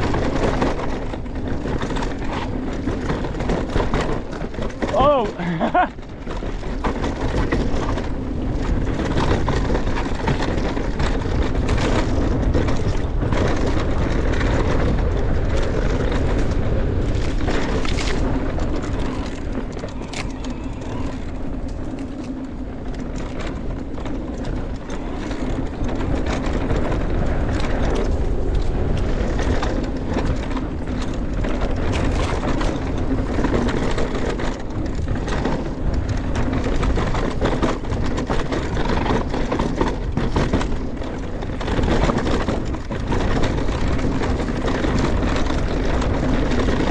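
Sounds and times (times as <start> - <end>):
bike rattling over bumps: 0.0 - 46.9
tyres rolling over dirt and rocks: 0.0 - 46.9
wind noise on microphone: 0.0 - 46.9.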